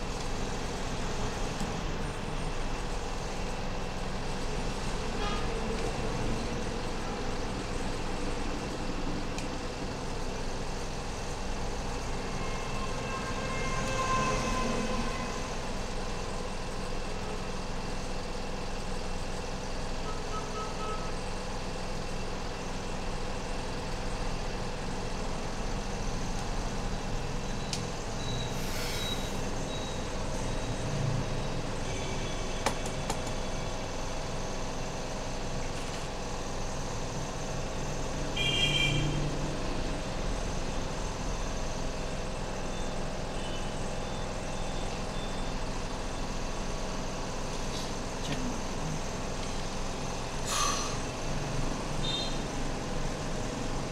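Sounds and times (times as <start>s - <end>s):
road traffic: 0.0s - 21.6s, 23.3s - 53.9s.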